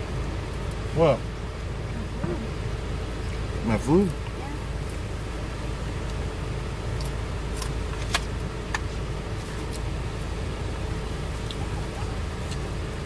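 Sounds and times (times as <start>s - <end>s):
low rumble inside car cabin: 0.0s - 13.0s.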